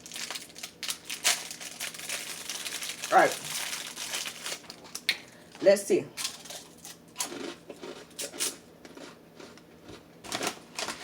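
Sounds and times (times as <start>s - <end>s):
crunching fortune cookie: 0.0s - 5.2s, 6.2s - 11.0s.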